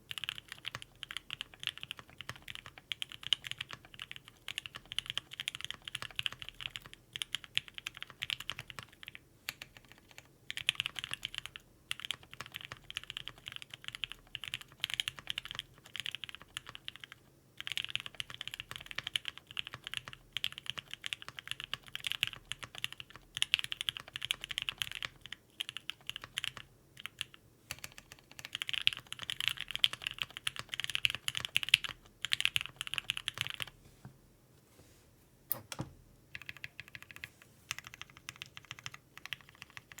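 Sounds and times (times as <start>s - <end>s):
fast typing on mechanical keyboard: 0.1s - 33.7s, 36.3s - 40.0s.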